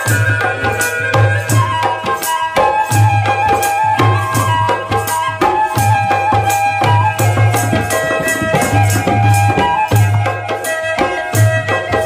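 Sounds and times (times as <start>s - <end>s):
held melodic notes: 0.0s - 12.0s
percussion beat: 0.0s - 12.0s.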